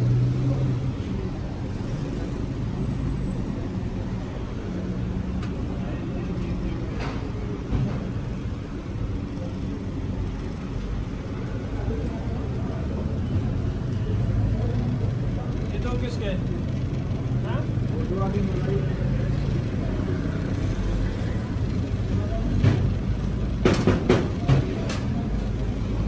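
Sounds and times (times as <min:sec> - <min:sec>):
faint voices: 0:00.0 - 0:26.0
road traffic rumble: 0:00.0 - 0:26.0.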